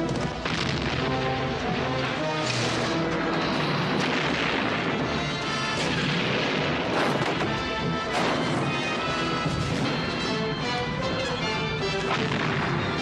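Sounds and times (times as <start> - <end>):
explosions: 0.0 - 10.6, 11.9 - 13.0
gunfire: 0.0 - 10.6, 11.9 - 13.0
dramatic background music: 0.0 - 13.0.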